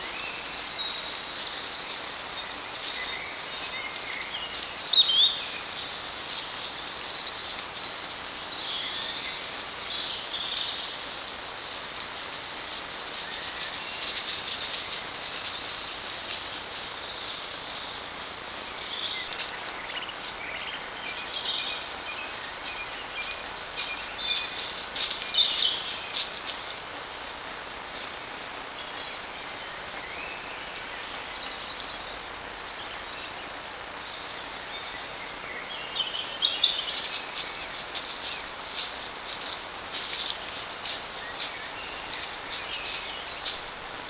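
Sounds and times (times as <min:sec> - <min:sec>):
microphone hiss: 0:00.0 - 0:44.0.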